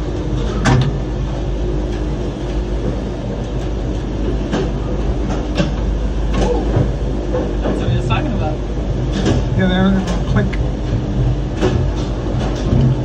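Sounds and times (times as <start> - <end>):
tram low rumble and rattle: 0.0 - 13.0.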